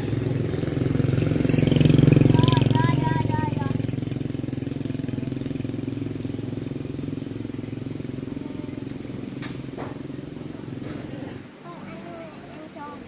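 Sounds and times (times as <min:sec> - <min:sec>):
motorbike engine running: 0:00.0 - 0:12.7.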